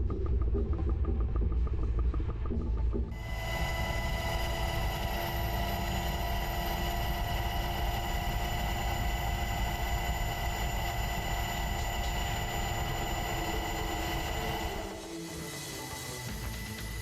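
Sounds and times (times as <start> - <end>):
engine drone with high whine: 0.0 - 17.0.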